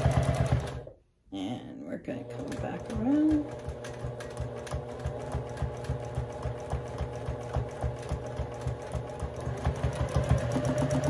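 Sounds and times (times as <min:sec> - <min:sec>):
sewing machine stitching: 0:00.0 - 0:00.9, 0:02.2 - 0:11.0.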